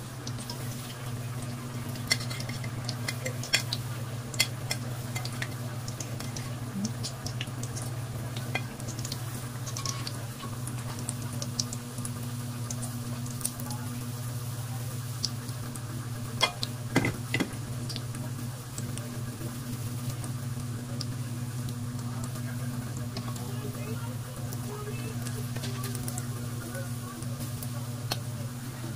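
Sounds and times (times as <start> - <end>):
oil crackling and popping: 0.0 - 28.9
oil sizzling: 0.0 - 28.9.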